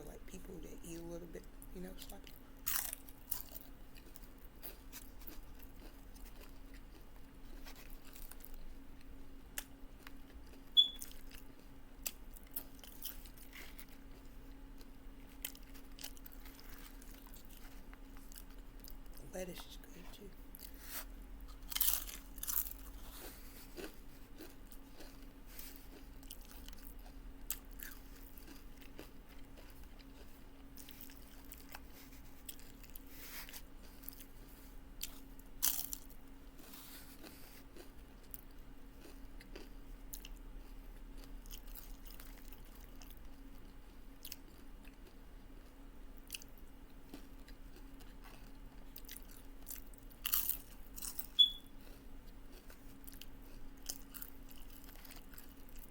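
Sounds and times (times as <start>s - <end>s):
steady low hum: 0.0s - 55.9s
crunchy chewing: 1.9s - 19.2s, 20.5s - 55.9s.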